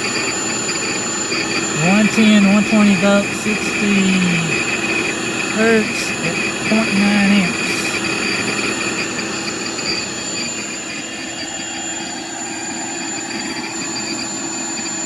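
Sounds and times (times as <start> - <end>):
electric air pump whirring: 0.0 - 15.0.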